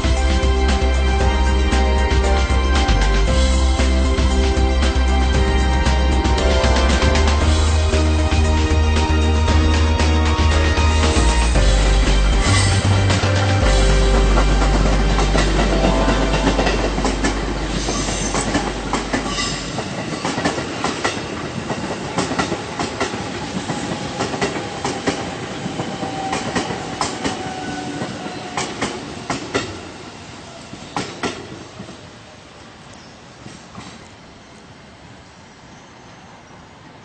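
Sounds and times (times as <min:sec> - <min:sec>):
deep train rumble: 0:00.0 - 0:32.3.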